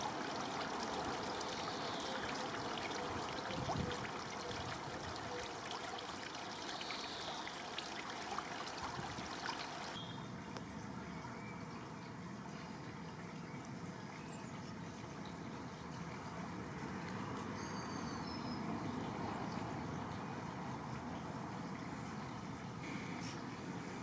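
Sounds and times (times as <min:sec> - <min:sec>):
running water trickling: 0:00.0 - 0:24.0.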